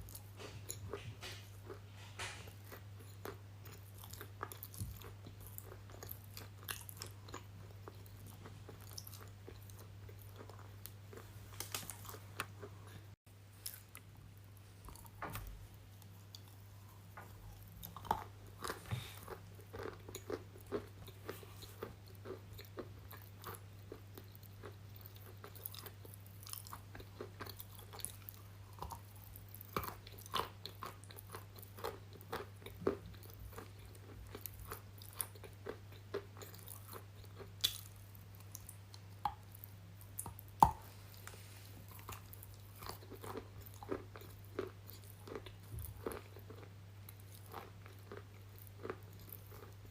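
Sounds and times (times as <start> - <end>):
person chewing brittle pieces: 0.0 - 14.1, 14.8 - 49.9
low electrical hum: 0.0 - 49.9.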